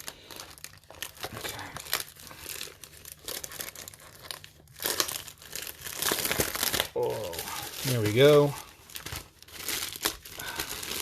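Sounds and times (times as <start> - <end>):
plastic shrink wrap tearing: 0.0 - 11.0.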